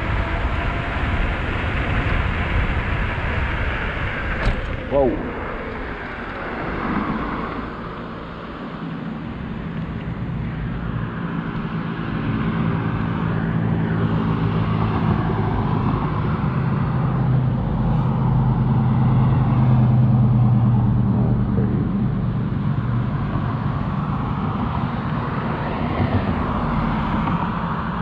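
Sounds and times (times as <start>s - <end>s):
vehicle engine hum: 0.0s - 28.0s
wind and road noise: 0.0s - 28.0s.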